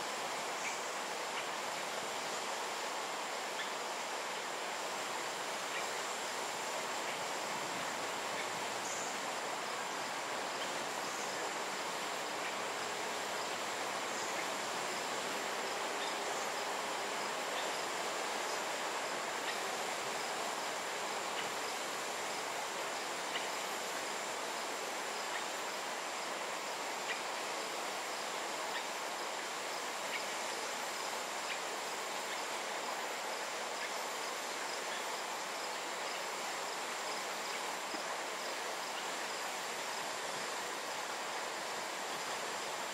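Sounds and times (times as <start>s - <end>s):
even hiss: 0.0s - 42.9s.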